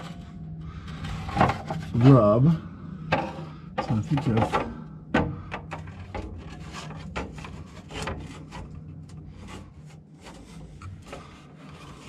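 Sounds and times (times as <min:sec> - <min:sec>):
plastic rubbing and scraping: 0:00.0 - 0:04.8, 0:05.4 - 0:12.0.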